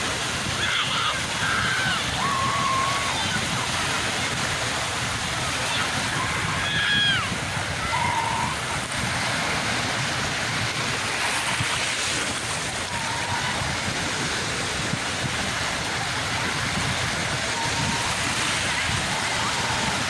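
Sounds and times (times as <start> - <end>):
sea surf washing on shore: 0.0 - 20.0.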